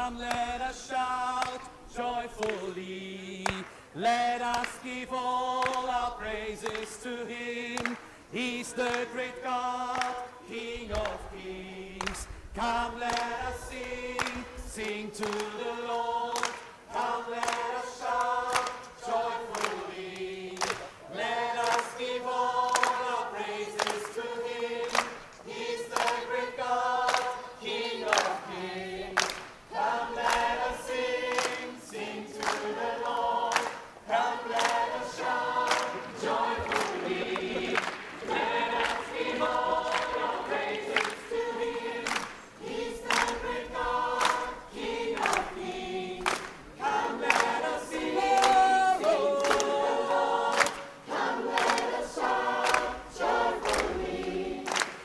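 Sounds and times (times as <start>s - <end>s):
choir singing a praise song: 0.0s - 55.0s.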